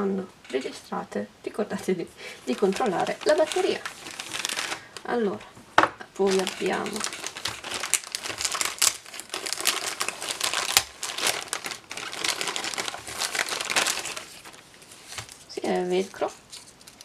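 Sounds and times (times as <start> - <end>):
plastic bag crinkling: 2.2 - 5.4, 6.2 - 17.0.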